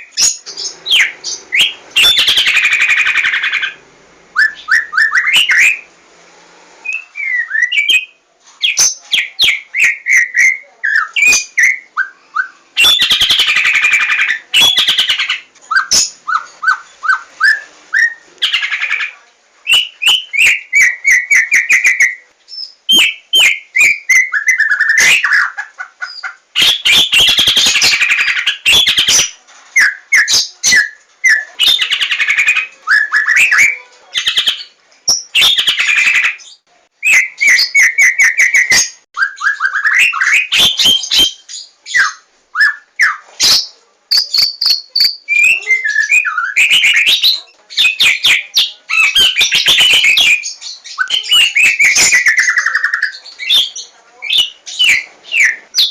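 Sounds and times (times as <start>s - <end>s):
bird singing trills and whistles: 0.0s - 3.8s, 4.4s - 5.9s, 6.8s - 19.1s, 19.7s - 55.9s.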